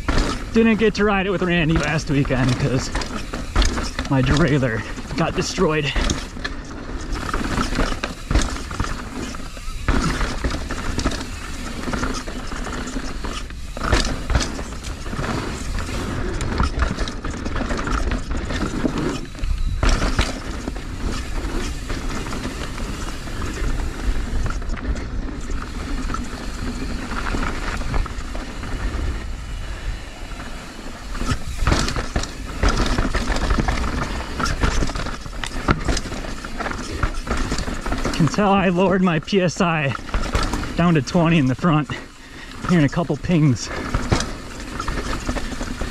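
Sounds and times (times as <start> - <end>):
bike tyres and rattle: 0.0 - 45.9.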